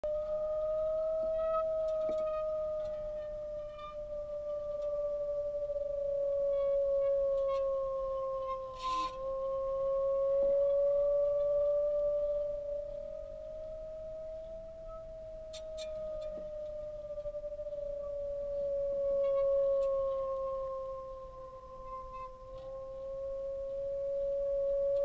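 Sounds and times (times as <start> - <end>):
faint electronic blips: 0.0 - 25.0
sustained hum-like tone: 0.0 - 25.0.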